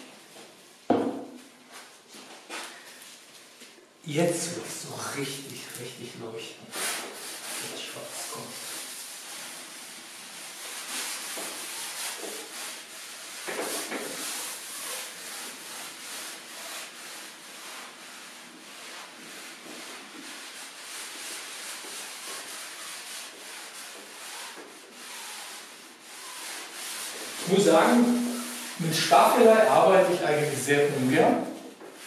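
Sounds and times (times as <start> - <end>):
sponge rubbing on painting surface: 4.1 - 32.0
sponge scrape: 4.2 - 32.0.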